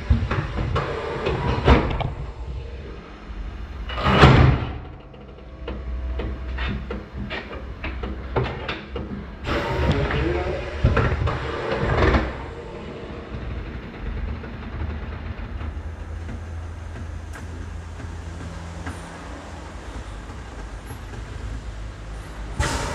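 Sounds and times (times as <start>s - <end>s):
loud rushing noise: 0.0s - 8.6s, 9.4s - 22.9s
low steady hum: 0.0s - 22.9s
metal clanks and knocks: 3.8s - 22.9s.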